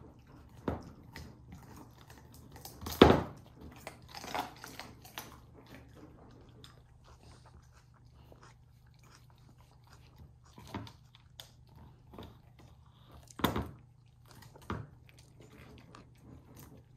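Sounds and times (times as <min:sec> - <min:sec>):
puppy gnawing a chew bone: 0:00.0 - 0:16.9.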